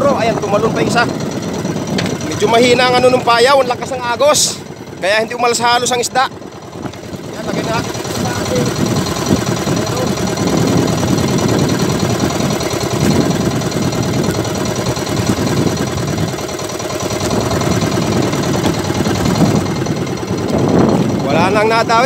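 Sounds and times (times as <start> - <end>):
boat engine low thudding: 0.0 - 22.0.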